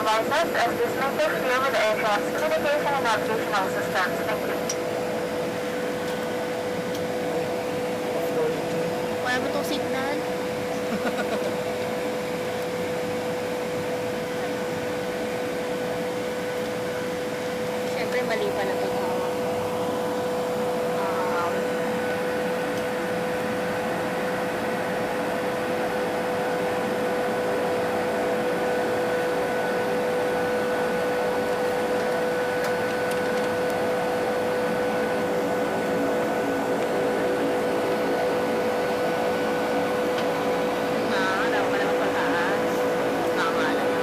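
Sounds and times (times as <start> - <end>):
plane engines droning in cabin: 0.0 - 44.0.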